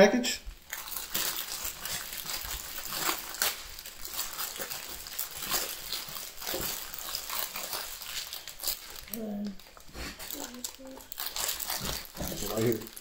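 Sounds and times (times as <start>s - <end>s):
plastic packaging rustling: 0.5s - 13.0s
sharp crackles: 0.5s - 13.0s.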